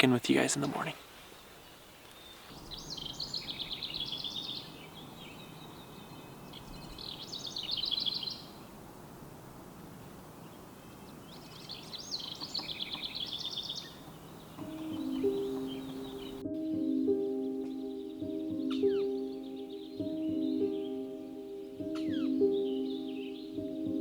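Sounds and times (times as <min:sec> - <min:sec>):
faint forest background noise: 0:00.0 - 0:24.0
songbird trilling: 0:00.9 - 0:08.8, 0:10.4 - 0:16.4, 0:17.1 - 0:24.0.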